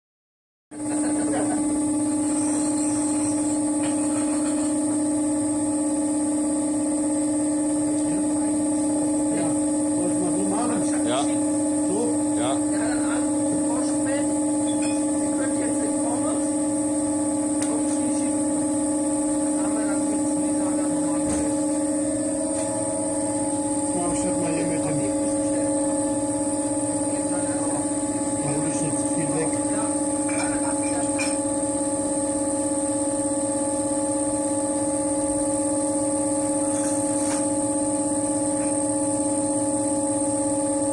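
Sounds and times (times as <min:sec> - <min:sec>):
potter's wheel motor humming: 0:00.8 - 0:40.9
thin high whine: 0:00.8 - 0:40.9.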